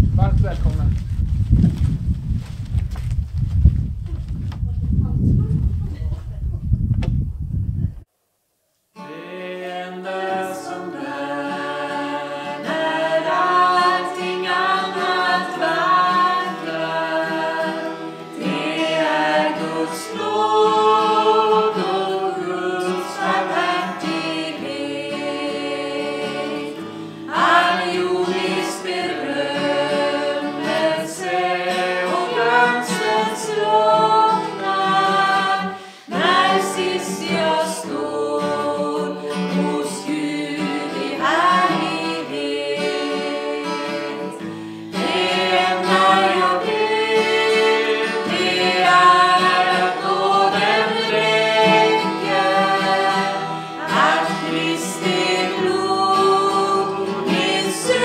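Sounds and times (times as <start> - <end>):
acoustic guitar: 8.9 - 58.0
group singing a hymn in parts: 9.0 - 58.0.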